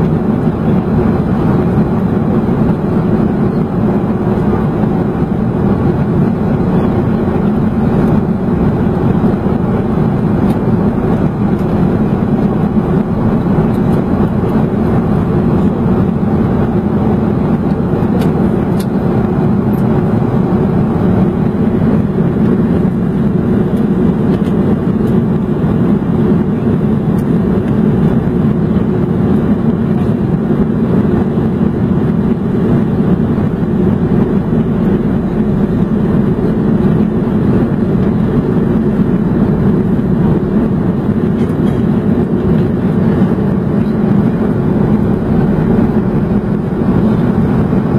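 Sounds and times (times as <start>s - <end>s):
airliner cabin engine noise: 0.0s - 47.9s.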